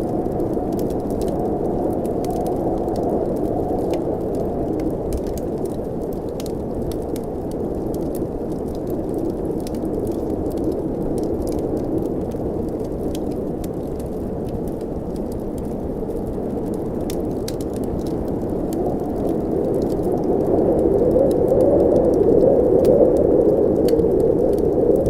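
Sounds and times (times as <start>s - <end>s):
blizzard wind blowing: 0.0s - 25.0s
wood fire crackling: 0.0s - 25.0s.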